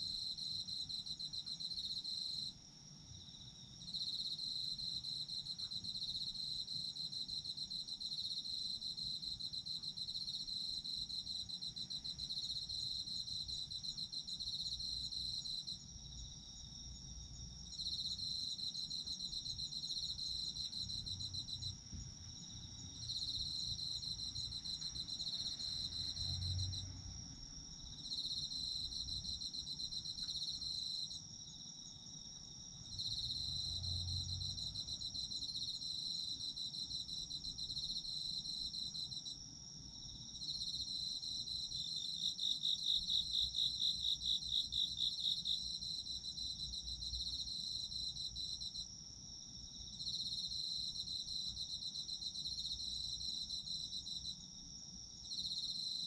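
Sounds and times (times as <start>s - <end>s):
high steady insect trill: 0.0s - 56.0s.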